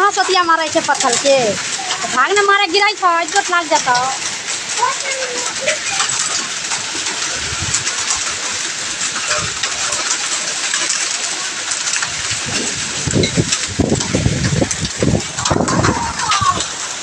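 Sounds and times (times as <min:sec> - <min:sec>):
hailstones ticking: 0:00.0 - 0:17.0
heavy rain hissing: 0:00.0 - 0:17.0.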